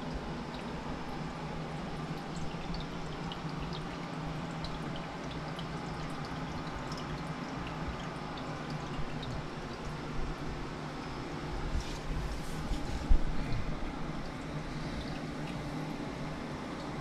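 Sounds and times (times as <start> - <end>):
water dripping: 0.0 - 11.0, 13.1 - 17.0
steady low hum: 0.0 - 17.0.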